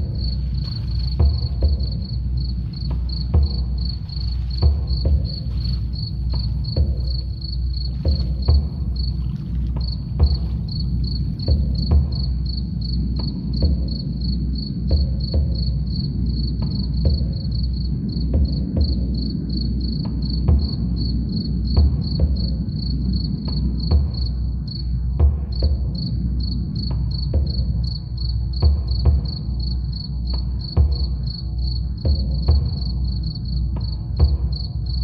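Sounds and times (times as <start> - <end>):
cricket chirping: 0.0 - 35.0
low drum beat: 0.0 - 35.0.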